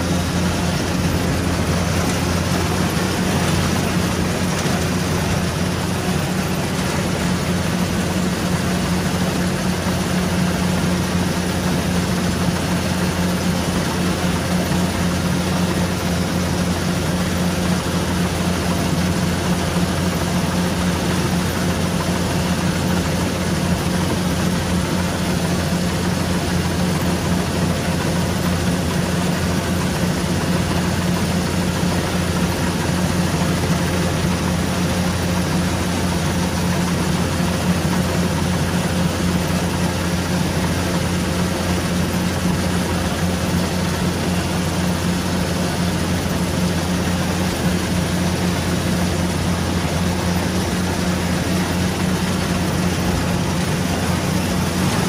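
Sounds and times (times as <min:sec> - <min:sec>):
combine harvester engine drone: 0:00.0 - 0:55.0
machinery noise: 0:00.0 - 0:55.0.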